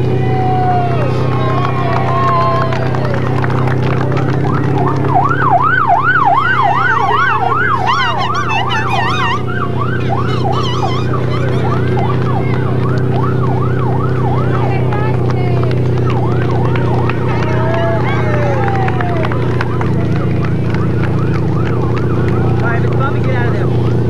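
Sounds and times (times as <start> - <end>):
low engine hum: 0.0 - 24.0
vehicle siren yelping: 0.0 - 24.0.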